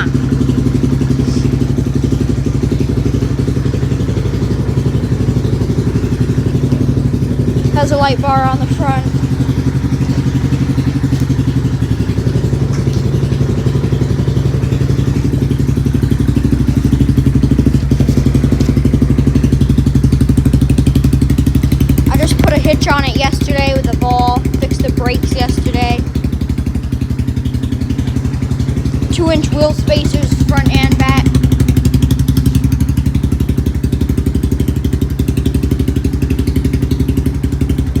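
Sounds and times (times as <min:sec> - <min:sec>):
atv engine idling: 0:00.0 - 0:38.0.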